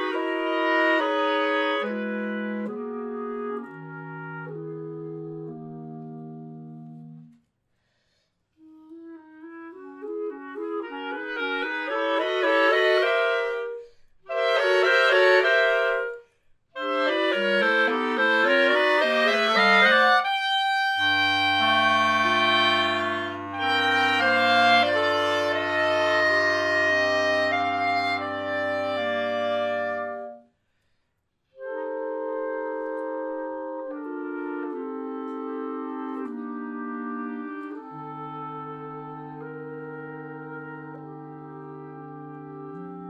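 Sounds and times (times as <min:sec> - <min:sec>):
clarinet quartet playing: 0:00.0 - 0:05.8, 0:09.4 - 0:16.2, 0:16.8 - 0:30.4, 0:31.6 - 0:43.0.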